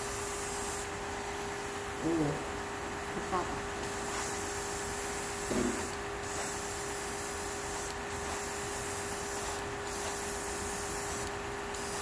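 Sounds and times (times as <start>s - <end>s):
airbrush spraying hiss: 0.0s - 2.4s, 3.8s - 12.0s.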